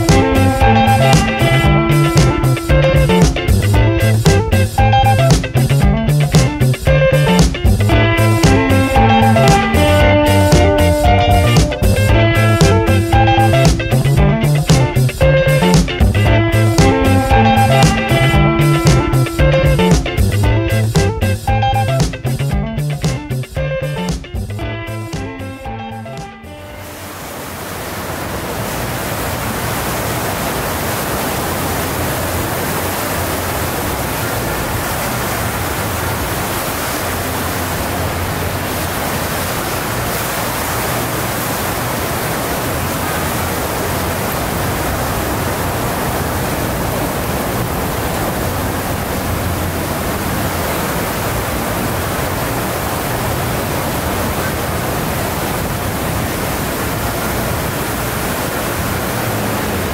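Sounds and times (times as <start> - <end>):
steady outdoor rushing noise: 0.0 - 59.9.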